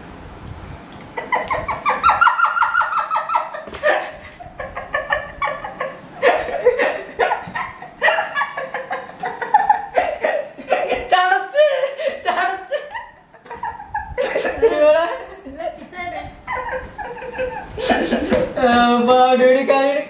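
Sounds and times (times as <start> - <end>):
people laughing: 1.2 - 15.6, 16.3 - 18.6.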